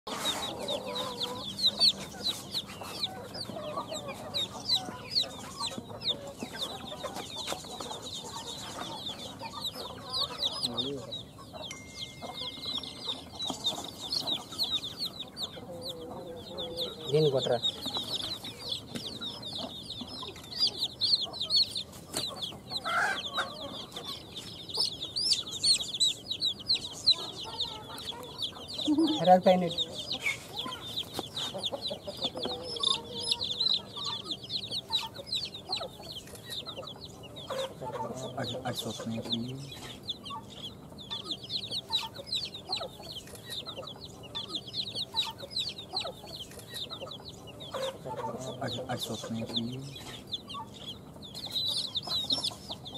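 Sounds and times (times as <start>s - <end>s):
chicks peeping: 0.1s - 52.9s.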